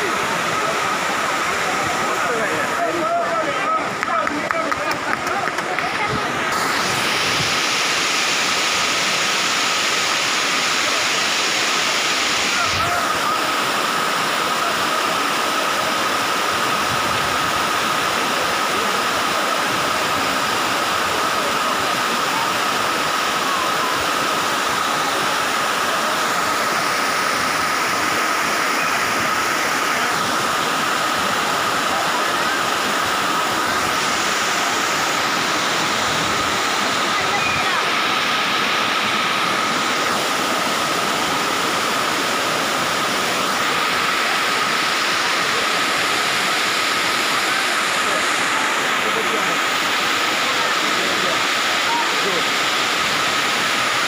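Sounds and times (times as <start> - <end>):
waterfall splashing on rocks: 0.0 - 54.0.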